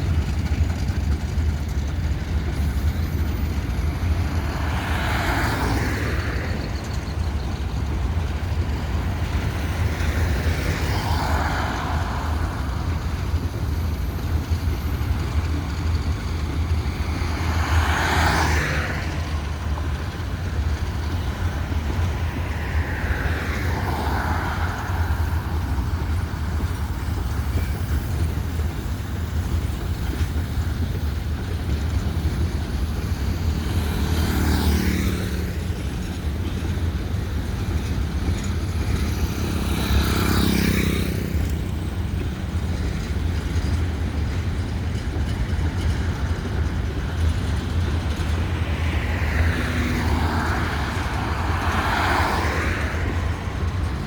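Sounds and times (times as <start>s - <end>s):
diesel locomotive engine rumble: 0.0s - 54.0s
rushing noise: 0.0s - 54.0s.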